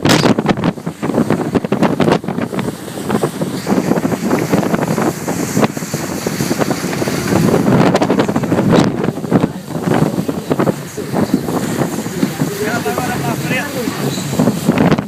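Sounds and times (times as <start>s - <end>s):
outboard motor running: 0.0s - 15.0s
rushing water: 0.0s - 15.0s
wind buffeting microphone: 0.0s - 15.0s.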